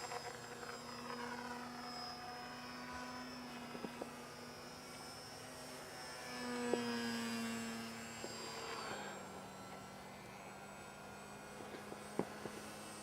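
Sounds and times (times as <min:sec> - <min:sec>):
model plane motor humming: 0:00.0 - 0:13.0.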